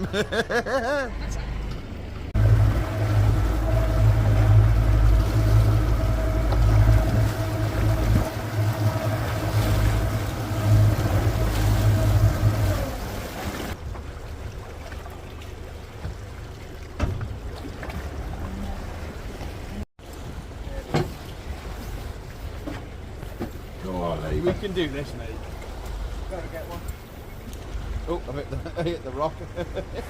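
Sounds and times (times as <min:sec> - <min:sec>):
boat engine humming: 0:00.0 - 0:30.0
water noise: 0:00.0 - 0:30.0
wind: 0:00.0 - 0:30.0.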